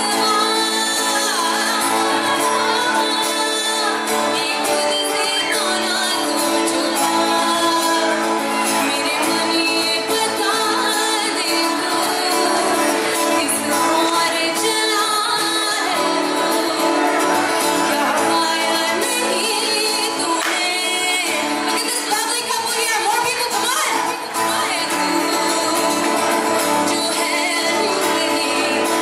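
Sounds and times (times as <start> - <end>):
acoustic guitar: 0.0 - 29.0
woman singing: 0.0 - 29.0.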